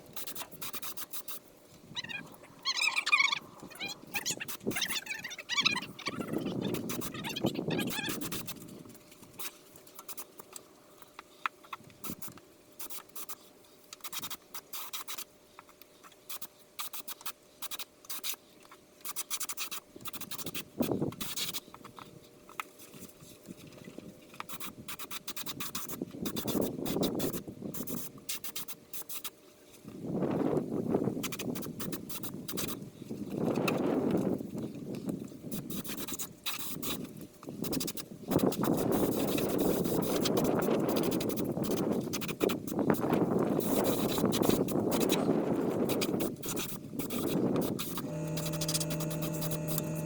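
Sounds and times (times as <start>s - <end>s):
irregular scratching and clicking: 0.1s - 2.2s, 3.7s - 29.8s, 31.2s - 50.0s.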